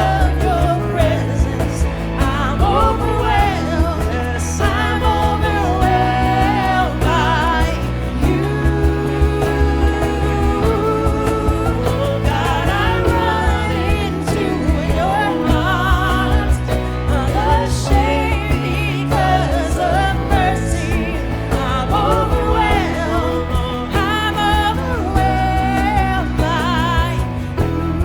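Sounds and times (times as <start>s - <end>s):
person singing with vibrato: 0.0s - 28.0s
steady bass: 0.0s - 28.0s.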